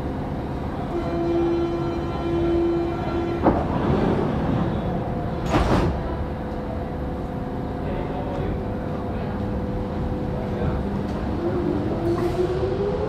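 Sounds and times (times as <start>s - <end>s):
train low hum: 0.0s - 13.0s.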